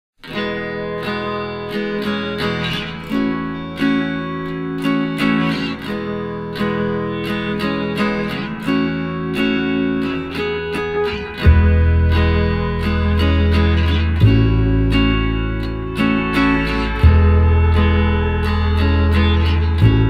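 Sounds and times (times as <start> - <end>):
acoustic guitar strumming chords: 0.2 - 20.0.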